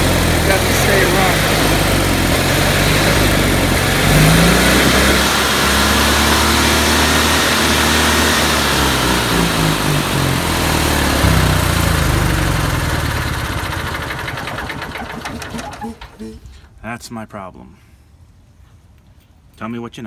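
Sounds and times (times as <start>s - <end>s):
generator engine running: 0.0s - 16.7s.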